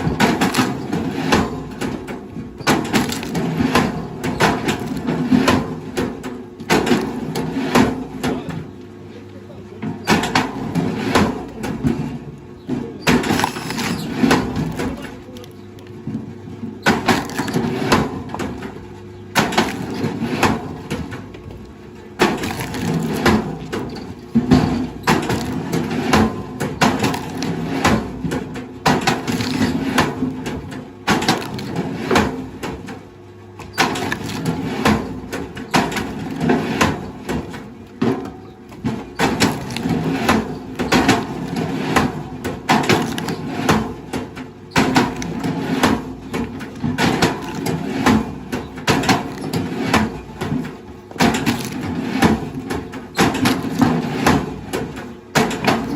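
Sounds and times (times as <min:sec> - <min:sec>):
wood cracking and splintering: 0:00.0 - 0:08.4, 0:10.1 - 0:55.9
steady low hum: 0:00.0 - 0:55.9.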